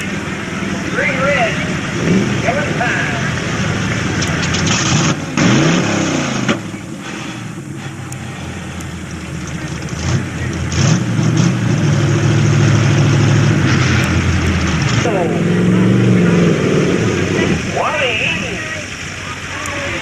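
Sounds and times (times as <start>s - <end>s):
pickup truck engine revving: 0.0s - 20.0s.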